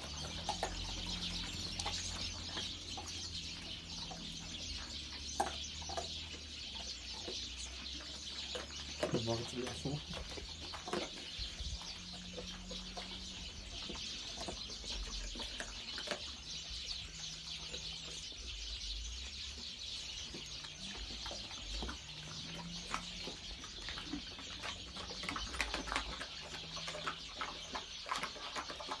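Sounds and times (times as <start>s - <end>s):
dogs eating from metal bowl: 0.0s - 29.0s
small birds chirping: 0.0s - 29.0s.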